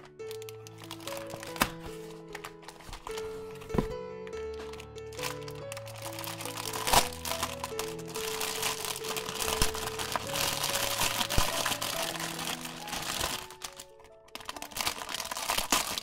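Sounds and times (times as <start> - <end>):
background music with held notes: 0.0 - 16.0
plastic packaging crinkling: 0.0 - 16.0.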